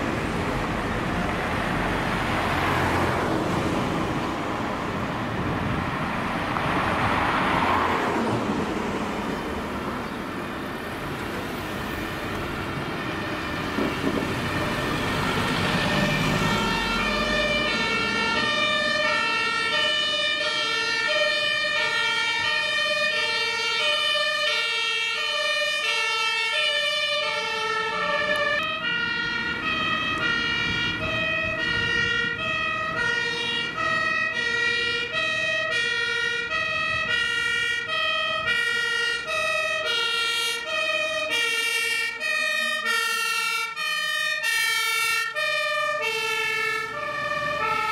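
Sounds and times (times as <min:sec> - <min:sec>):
car passing: 0:00.0 - 0:24.6, 0:26.0 - 0:47.9
fire engine two-tone siren: 0:00.0 - 0:47.9.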